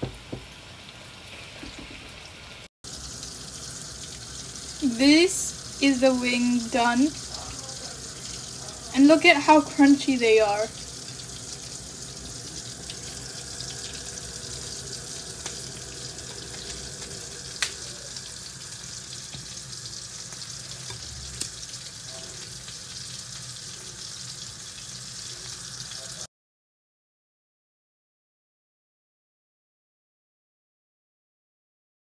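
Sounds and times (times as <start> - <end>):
oil sizzling: 0.0 - 26.3.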